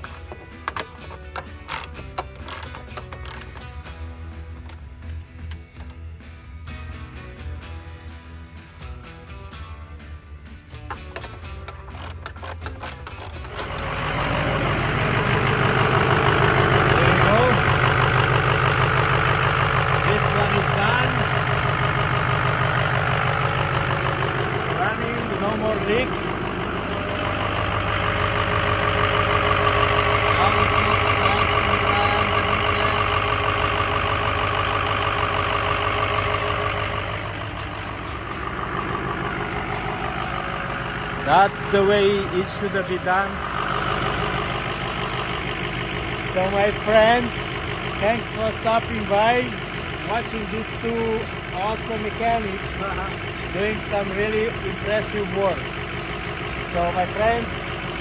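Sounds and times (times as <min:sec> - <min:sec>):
diesel engine cranking and running: 0:00.0 - 0:06.2, 0:10.1 - 0:58.0.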